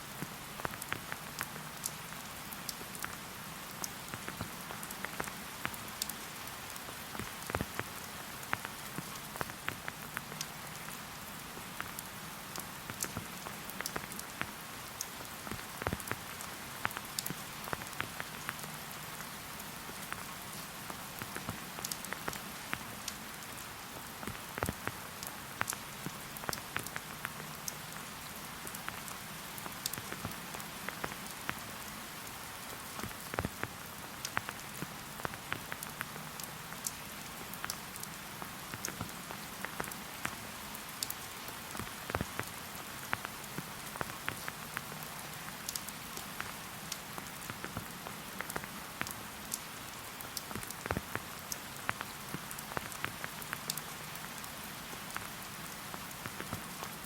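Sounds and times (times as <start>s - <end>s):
steady rain hiss: 0.0s - 57.0s
raindrops ticking: 0.2s - 57.0s.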